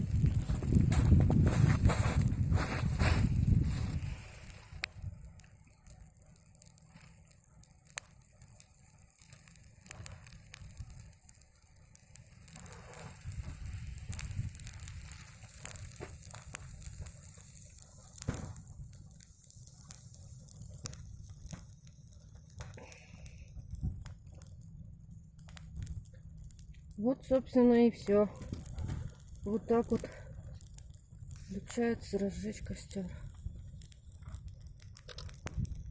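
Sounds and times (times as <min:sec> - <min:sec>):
campfire crackling and popping: 0:00.0 - 0:35.9
fire low rumble: 0:00.0 - 0:35.9.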